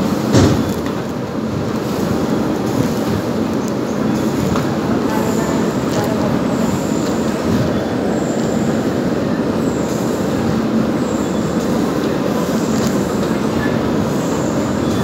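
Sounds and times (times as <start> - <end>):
belt conveyor rumbling: 0.0 - 15.0.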